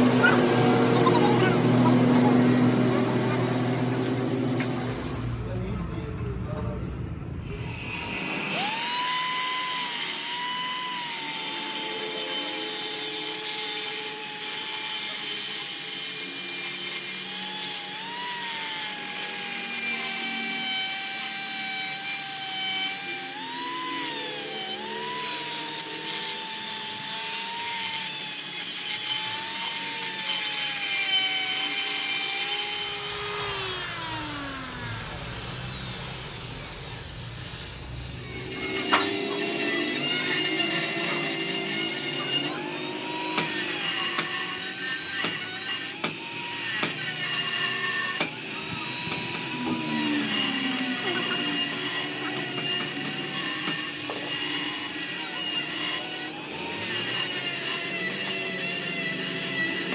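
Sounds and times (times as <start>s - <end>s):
power tool whining on metal: 0.0s - 5.5s, 7.4s - 59.9s.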